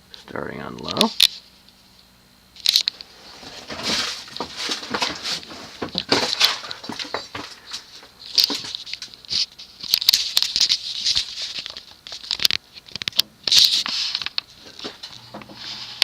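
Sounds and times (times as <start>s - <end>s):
ceiling fan clicking and rattling: 0.0s - 16.0s
faint fan motor hum: 0.0s - 16.0s.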